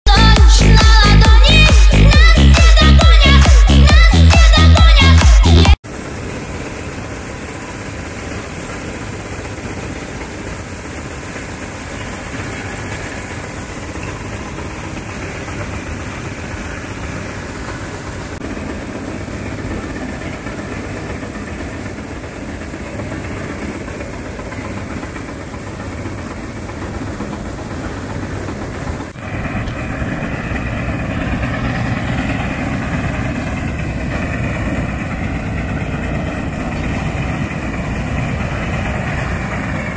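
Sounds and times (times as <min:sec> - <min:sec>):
combine harvester working: 0:05.8 - 0:39.9.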